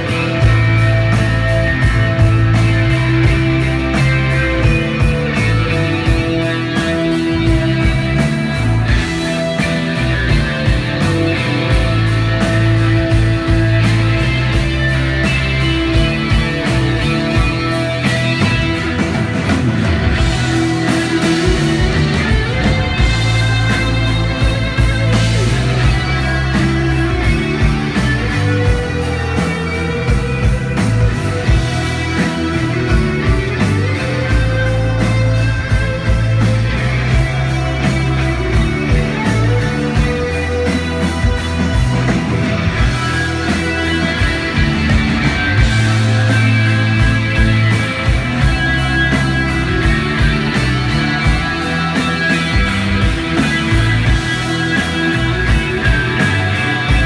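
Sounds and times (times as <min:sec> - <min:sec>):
bass: 0:00.0 - 0:57.0
electric guitar: 0:00.0 - 0:57.0
live rock band playing: 0:00.0 - 0:57.0
steady drum beat: 0:00.0 - 0:57.0.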